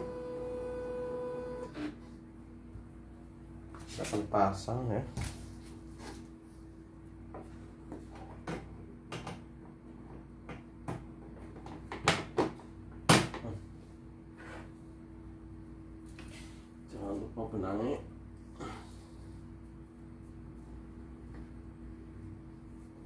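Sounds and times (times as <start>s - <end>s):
steady low hum: 0.0s - 11.9s, 12.5s - 23.0s.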